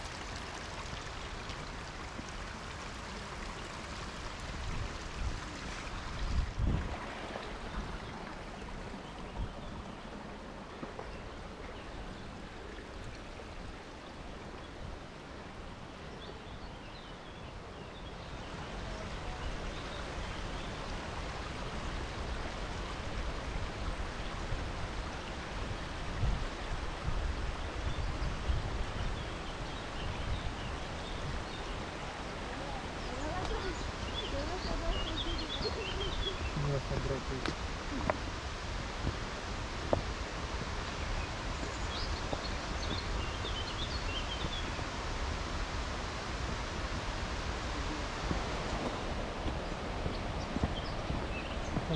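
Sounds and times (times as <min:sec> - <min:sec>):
stream rushing over rocks: 0:00.0 - 0:51.9.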